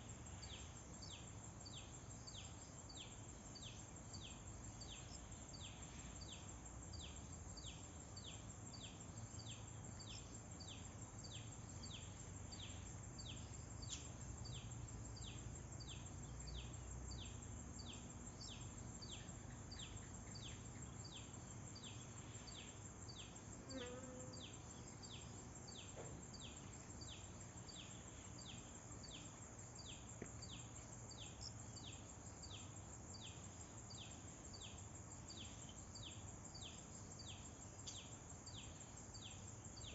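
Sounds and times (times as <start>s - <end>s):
insect high-pitched drone: 0.0s - 39.9s.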